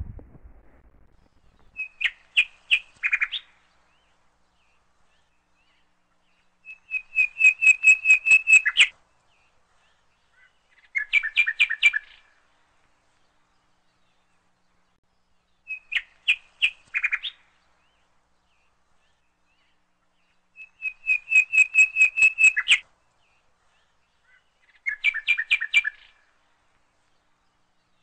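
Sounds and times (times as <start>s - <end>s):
bird chirping: 0.9s - 12.3s, 14.1s - 26.4s.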